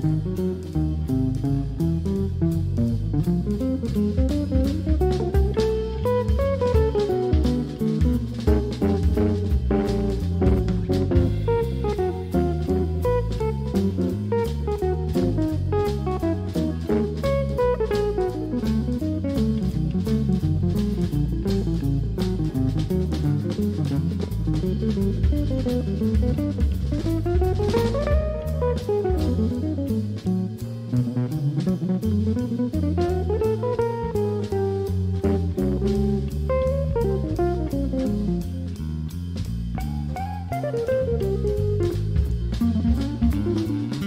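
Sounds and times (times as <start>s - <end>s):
electric guitar soloing: 0.0s - 38.7s, 39.7s - 44.0s
bass: 0.0s - 44.0s
drum kit: 0.0s - 44.0s.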